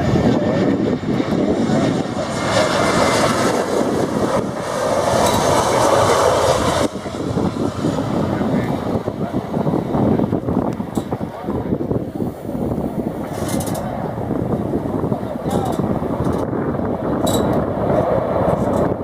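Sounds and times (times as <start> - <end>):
jet engines landing: 0.0 - 19.0.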